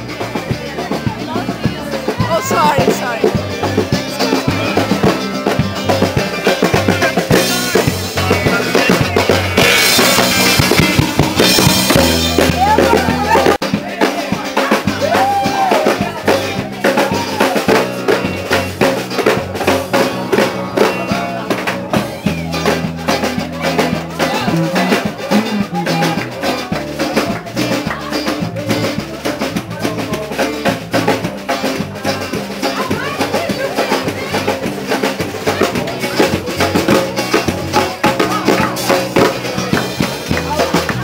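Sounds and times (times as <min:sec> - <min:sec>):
acoustic guitars: 0:00.0 - 0:41.0
bass line: 0:00.0 - 0:41.0
drum beat: 0:00.0 - 0:41.0.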